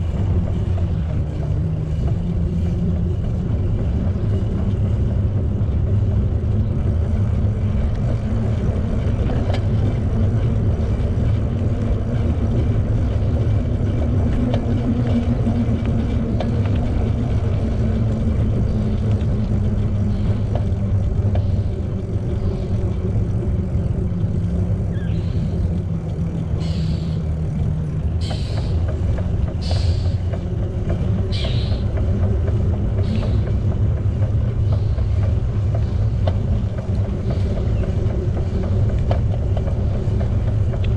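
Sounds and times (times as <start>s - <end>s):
bicycle tyre noise: 0.0s - 40.9s
wind buffeting microphone: 0.0s - 40.9s.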